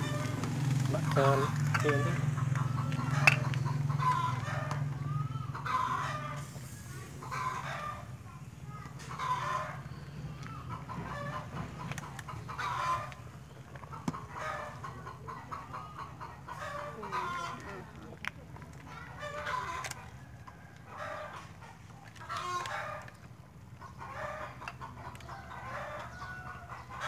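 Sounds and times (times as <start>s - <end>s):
chickens calling: 0.0s - 27.0s.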